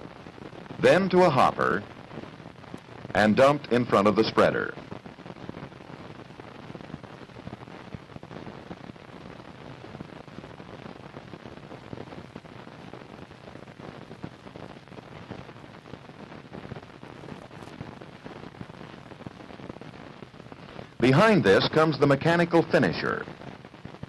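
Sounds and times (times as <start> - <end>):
film soundtrack hiss and crackles: 0.0 - 24.0.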